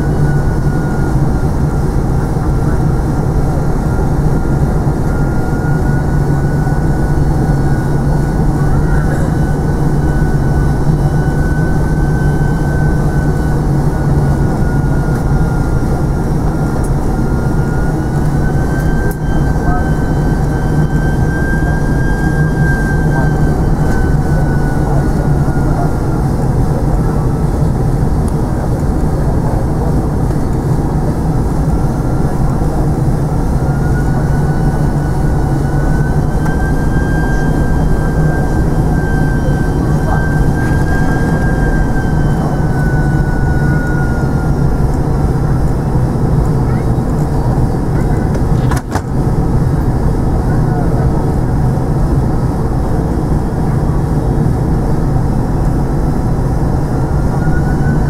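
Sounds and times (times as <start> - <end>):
airliner cabin engine rumble: 0.0 - 58.0
high wavering whine: 0.0 - 58.0.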